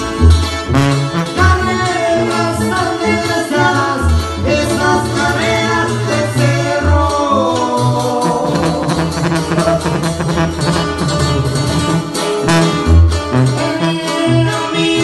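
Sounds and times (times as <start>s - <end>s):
guitar chords and melody: 0.0s - 15.0s
live band playing: 0.0s - 15.0s
sousaphone bass notes: 0.0s - 15.0s.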